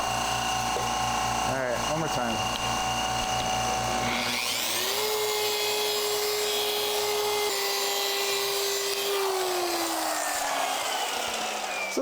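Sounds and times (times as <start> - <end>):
electric polisher motor whine: 0.0 - 12.0.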